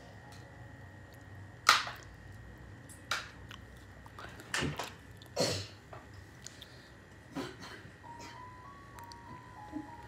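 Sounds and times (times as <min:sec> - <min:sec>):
faint steady high whine: 0:00.0 - 0:10.0.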